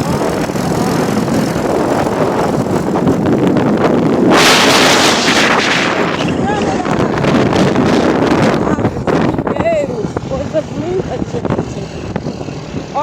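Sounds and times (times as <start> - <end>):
road noise from moving vehicle: 0.0 - 13.0
wind on microphone: 0.0 - 13.0.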